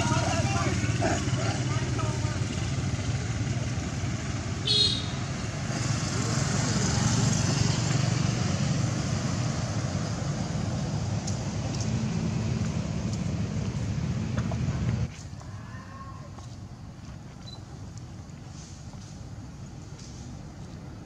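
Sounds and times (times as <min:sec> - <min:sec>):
road vehicle rumbling: 0:00.0 - 0:21.0.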